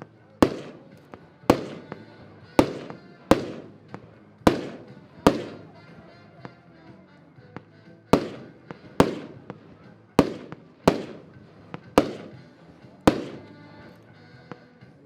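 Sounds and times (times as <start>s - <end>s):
small firework cracks: 0.0s - 14.8s
firework bangs with echo: 0.4s - 6.6s, 7.5s - 14.0s.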